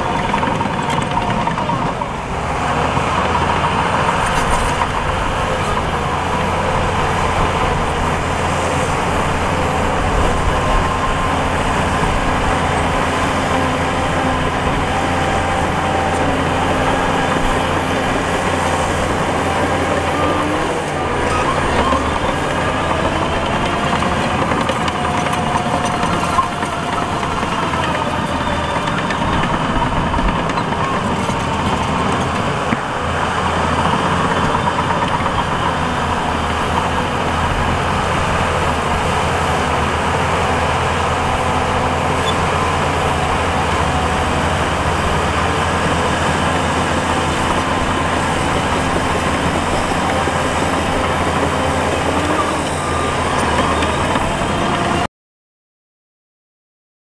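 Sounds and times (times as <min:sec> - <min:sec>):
heavy machinery diesel engines: 0:00.0 - 0:55.1.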